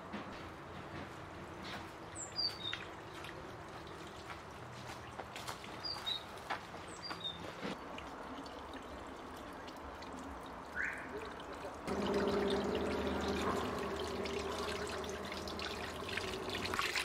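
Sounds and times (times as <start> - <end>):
water trickling from a hose: 1.9 - 7.1, 7.7 - 17.0.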